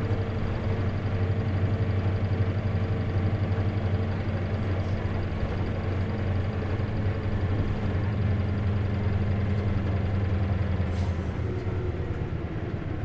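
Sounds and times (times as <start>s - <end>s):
bus engine low hum: 0.0s - 13.0s.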